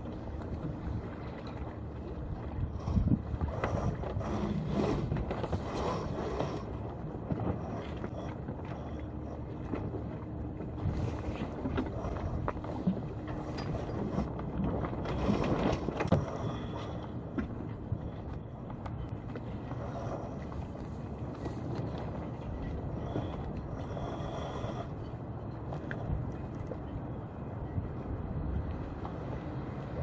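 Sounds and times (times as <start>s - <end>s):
water against boat hull: 0.0s - 30.0s
wind on microphone: 0.0s - 30.0s.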